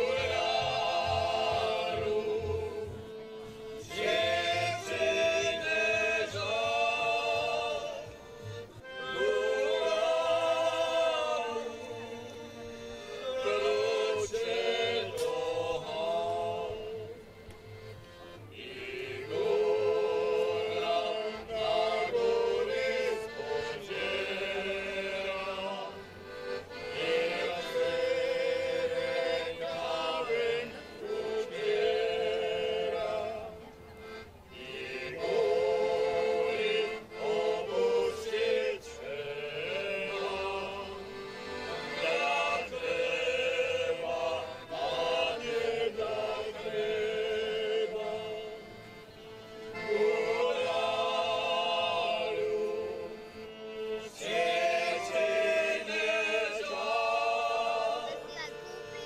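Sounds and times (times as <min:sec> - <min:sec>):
choir singing: 0:00.0 - 0:17.9, 0:18.5 - 0:59.0.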